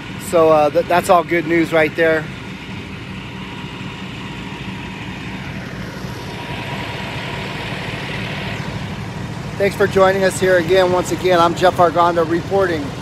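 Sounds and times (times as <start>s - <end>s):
fire engine idling: 0.0s - 13.0s.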